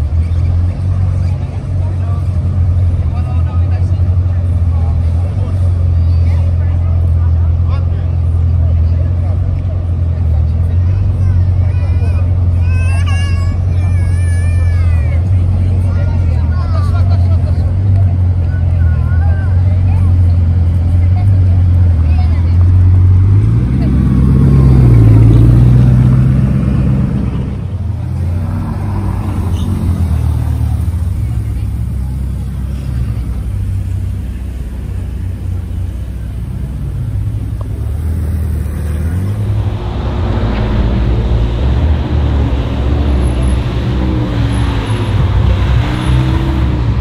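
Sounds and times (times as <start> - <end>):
second sports car engine: 0.0 - 47.0
sports car engine droning: 0.0 - 47.0.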